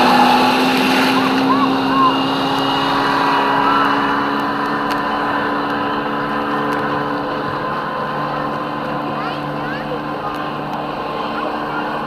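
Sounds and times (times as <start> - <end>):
engine drone with held tones: 0.0 - 12.0.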